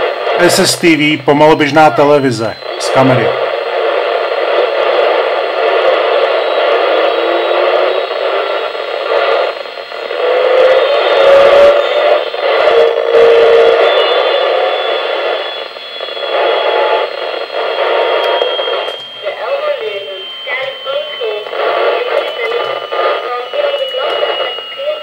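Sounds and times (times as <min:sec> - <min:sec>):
hissy radio signal: 0:00.0 - 0:25.0.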